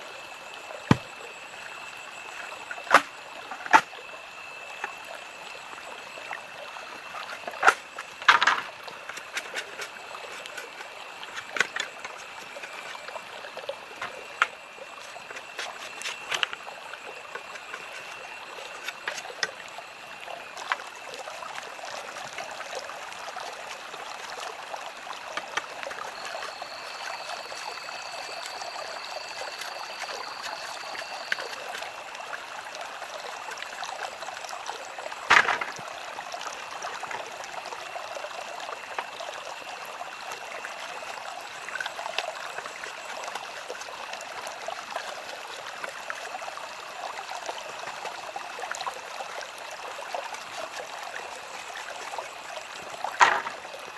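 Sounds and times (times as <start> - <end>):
stream of water running: 0.0 - 53.9.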